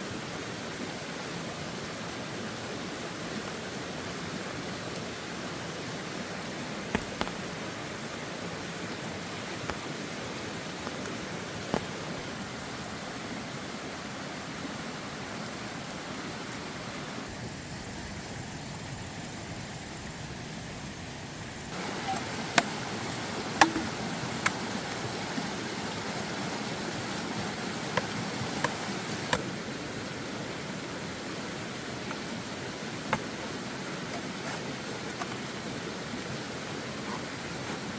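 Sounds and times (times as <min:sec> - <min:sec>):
water rushing: 0:00.0 - 0:37.9.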